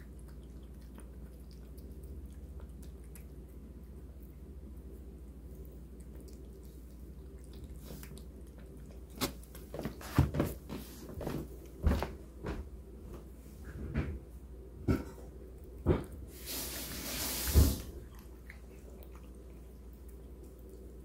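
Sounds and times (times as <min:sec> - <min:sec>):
cat chewing and licking: 0:00.0 - 0:11.8, 0:15.2 - 0:21.0.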